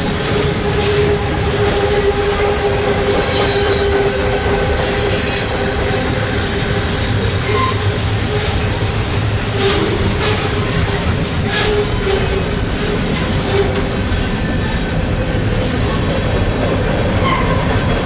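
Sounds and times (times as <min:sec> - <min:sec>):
freight train wheels rumbling: 0:00.0 - 0:18.0
wheels clacking over rail joints: 0:00.0 - 0:18.0.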